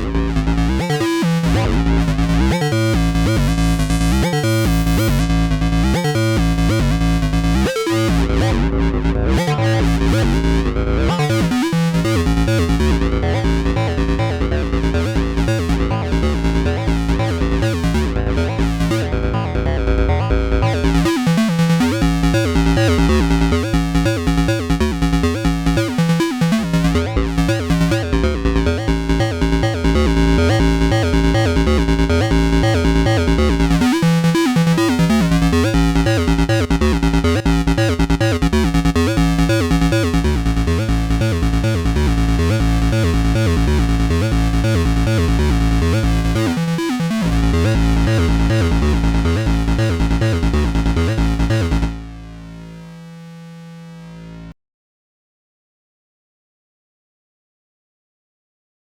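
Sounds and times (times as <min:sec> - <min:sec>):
pulsing synth bass line: 0:00.0 - 0:54.5.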